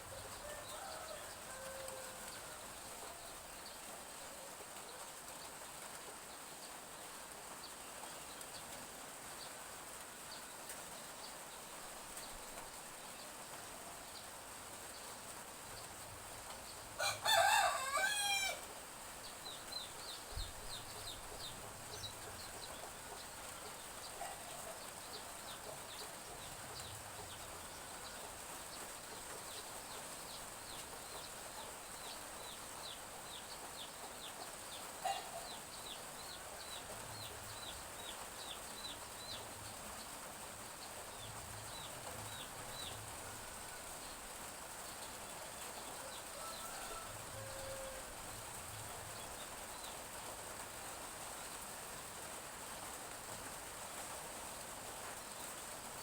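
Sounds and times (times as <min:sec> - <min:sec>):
light drizzle hiss: 0:00.0 - 0:56.0.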